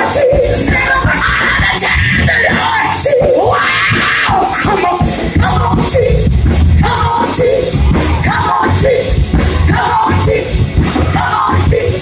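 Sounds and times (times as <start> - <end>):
drums and bass beat: 0.0 - 12.0
people singing worship music: 0.0 - 12.0.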